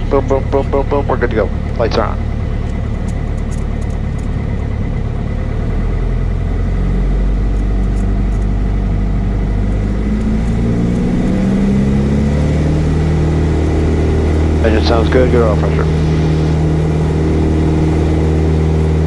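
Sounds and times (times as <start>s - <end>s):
airplane engine and propeller: 0.0s - 19.0s.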